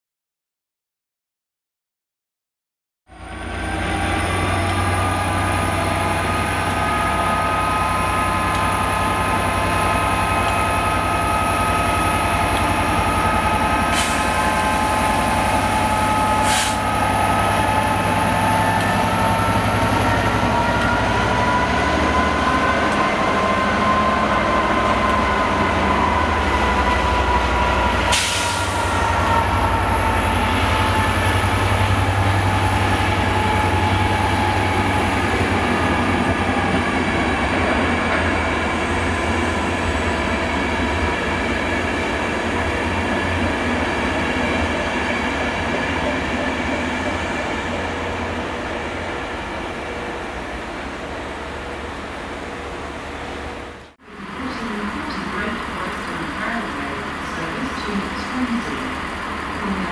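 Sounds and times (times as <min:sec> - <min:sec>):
diesel locomotive engine rumbling: 0:03.1 - 0:59.9.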